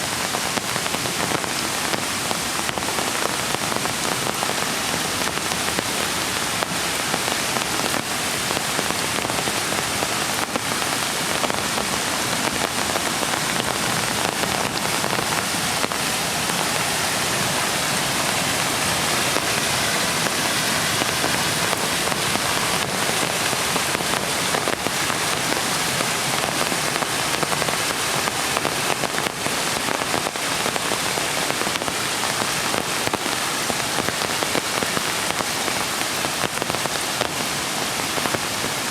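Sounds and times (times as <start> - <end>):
rain drops on hard surfaces: 0.0 - 38.9.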